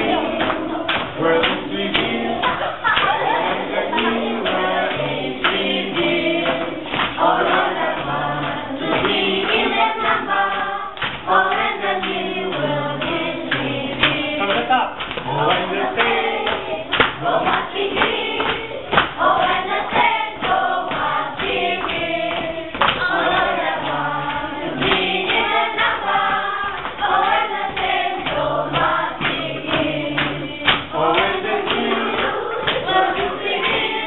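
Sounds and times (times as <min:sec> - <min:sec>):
children singing: 0:00.0 - 0:34.0.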